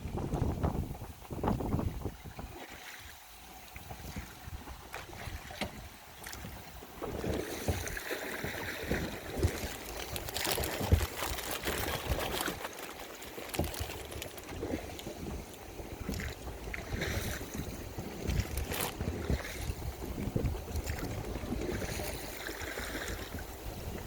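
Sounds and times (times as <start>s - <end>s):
water sloshing around boat: 0.0s - 24.0s.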